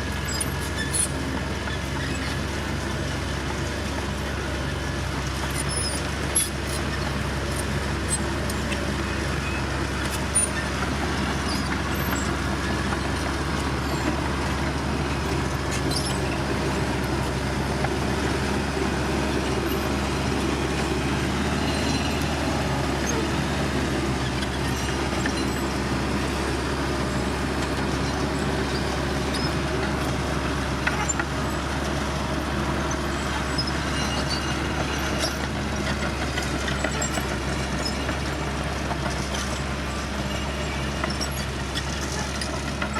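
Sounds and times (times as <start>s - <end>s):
heavy machinery diesel engine running: 0.0s - 42.9s.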